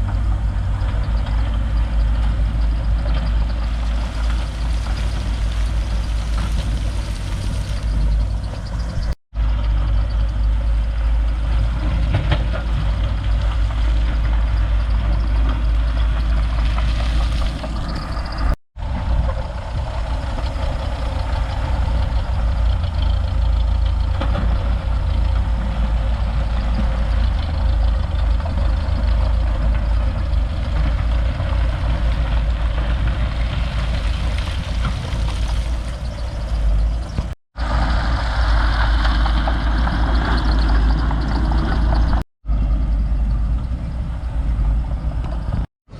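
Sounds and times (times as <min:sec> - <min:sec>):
heavy diesel engine rumbling: 0:00.0 - 0:45.9.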